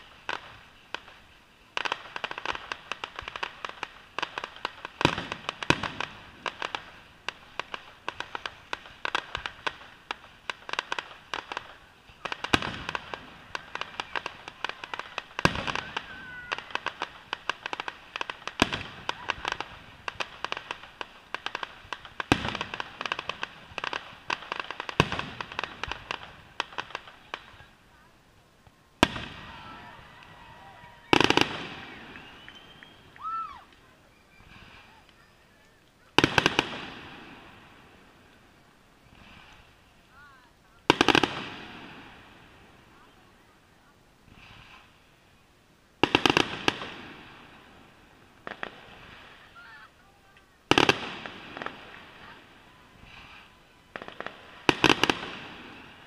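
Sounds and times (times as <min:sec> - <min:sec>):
deep fireworks booms: 0:00.0 - 0:27.9, 0:28.6 - 0:35.2, 0:36.1 - 0:43.6, 0:46.0 - 0:49.9, 0:50.6 - 0:56.0
fireworks crackling: 0:00.0 - 0:56.0.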